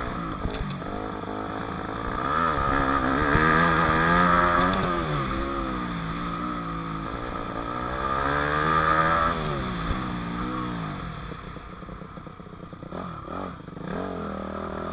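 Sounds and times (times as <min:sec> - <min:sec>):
dirt bike engine revving: 0:00.0 - 0:11.6, 0:12.7 - 0:14.9.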